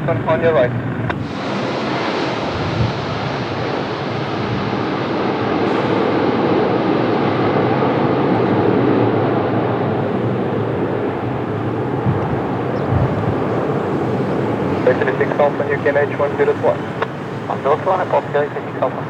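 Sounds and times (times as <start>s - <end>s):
jet engines at high thrust: 0.0s - 19.0s.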